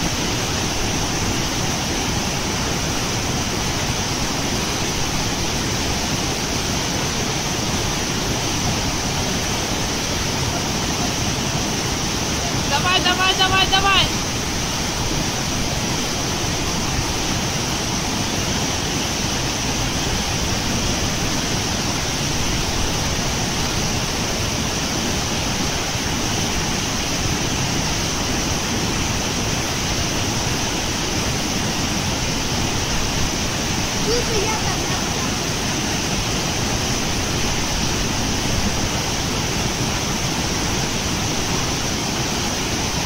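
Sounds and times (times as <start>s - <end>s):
floodwater rushing and churning: 0.0s - 43.0s.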